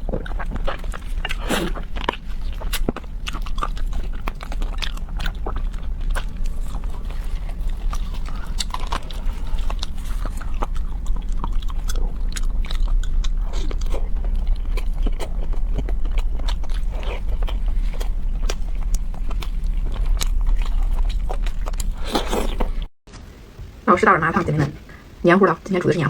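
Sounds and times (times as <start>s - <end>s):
chewing and crunching: 0.0s - 22.9s.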